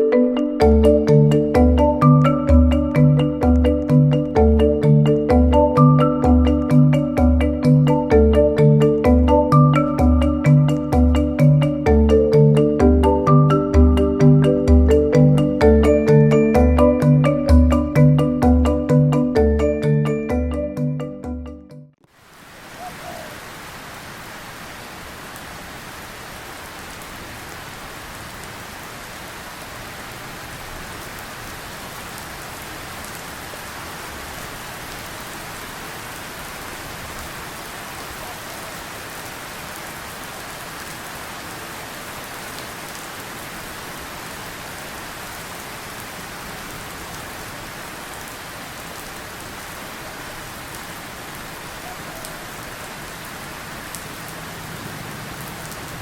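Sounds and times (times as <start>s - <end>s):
steady rain falling: 0.0s - 21.0s, 22.0s - 56.0s.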